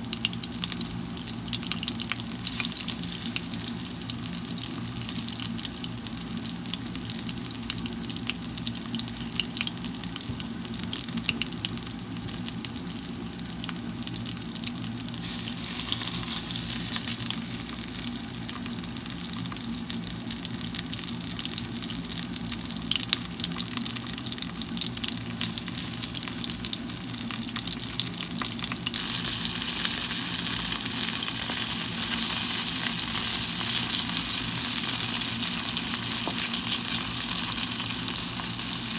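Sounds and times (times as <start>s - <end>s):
dumplings sizzling in a pan: 0.0s - 38.9s.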